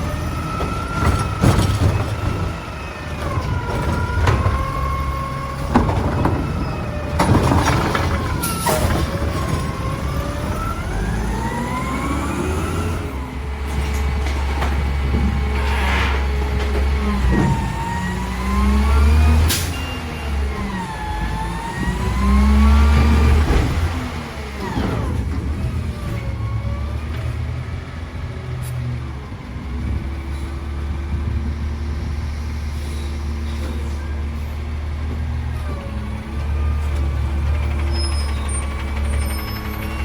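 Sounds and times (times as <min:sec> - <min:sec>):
garbage truck engine revving: 0:00.0 - 0:40.0.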